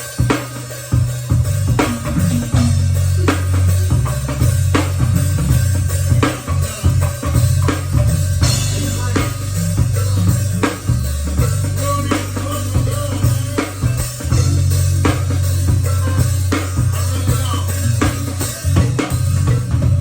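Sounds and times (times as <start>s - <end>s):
band playing: 0.0s - 20.0s
drum kit kick and snare hits: 0.0s - 20.0s
deep bass line: 1.0s - 20.0s.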